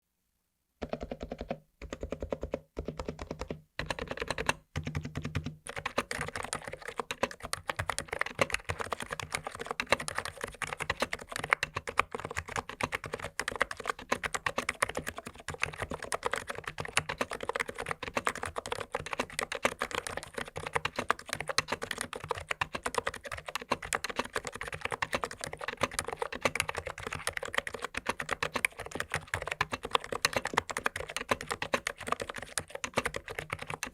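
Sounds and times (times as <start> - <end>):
typing on keyboard: 0.8 - 33.9.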